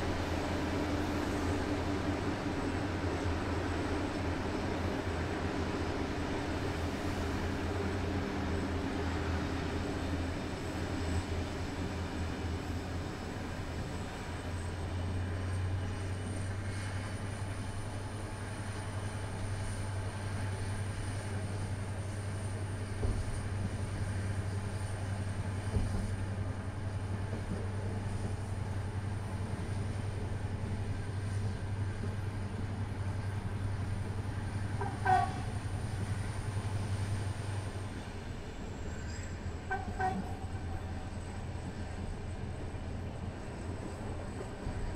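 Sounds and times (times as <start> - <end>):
train carriage running noise: 0.0 - 44.9.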